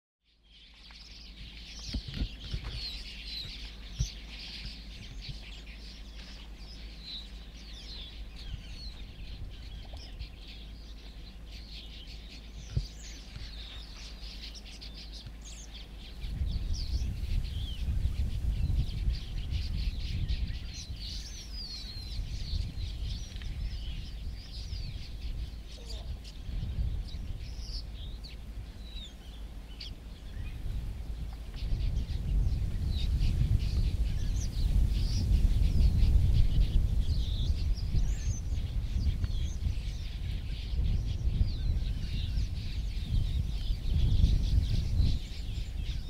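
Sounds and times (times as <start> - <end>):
small birds chirping: 0.2 - 46.0.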